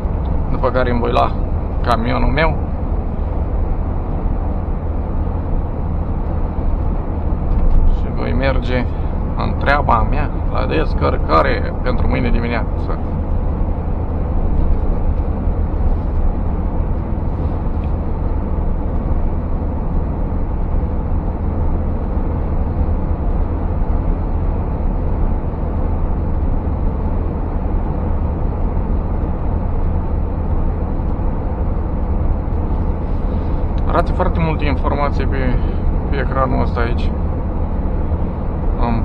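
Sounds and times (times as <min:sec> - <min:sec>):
truck engine rumble: 0:00.0 - 0:39.0
tyre and road noise: 0:00.0 - 0:39.0.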